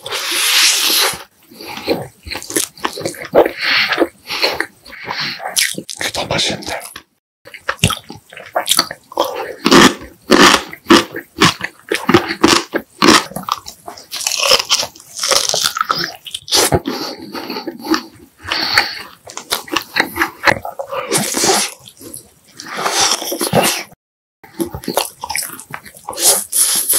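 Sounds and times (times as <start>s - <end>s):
person biting and chewing food: 0.0s - 26.9s.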